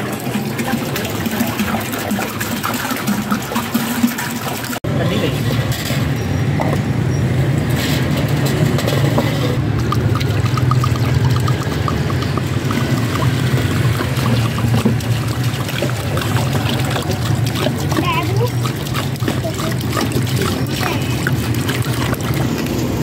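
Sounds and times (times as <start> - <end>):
water pouring and splashing: 0.0 - 23.0.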